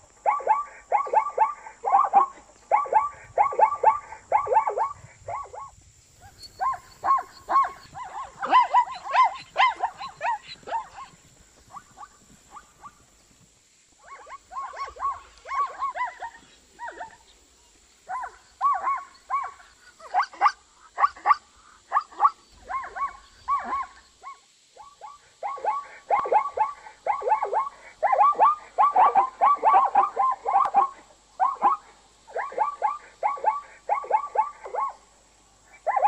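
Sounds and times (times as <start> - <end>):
zebras barking: 0.3 - 13.2, 14.0 - 17.4, 18.1 - 35.0.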